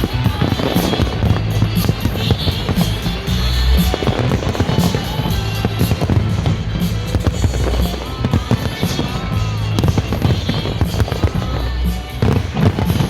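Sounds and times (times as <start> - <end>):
fireworks bangs and crackles: 0.0 - 13.0
loud music with heavy bass: 0.0 - 13.0.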